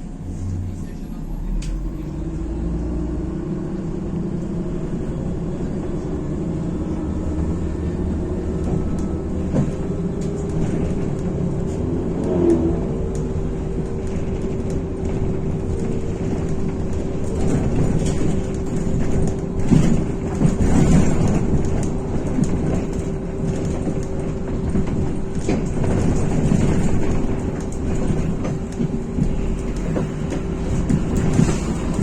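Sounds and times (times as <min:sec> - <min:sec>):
bus engine rumble and whine: 0:00.0 - 0:32.0
road noise: 0:00.0 - 0:32.0.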